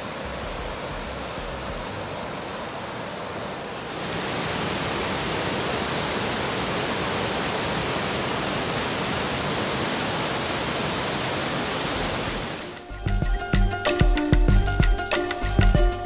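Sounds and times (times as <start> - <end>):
creek rushing over boulders: 0.0 - 12.9.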